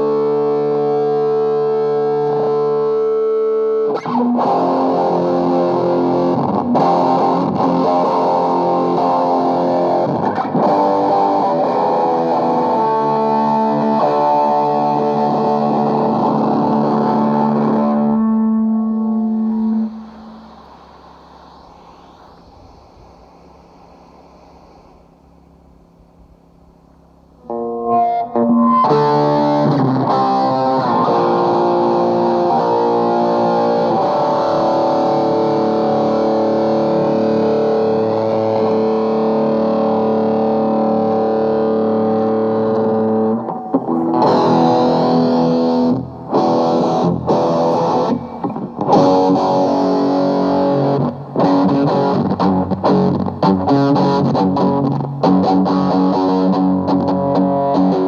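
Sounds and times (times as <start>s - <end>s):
distorted electric guitar chords: 0.0s - 58.0s.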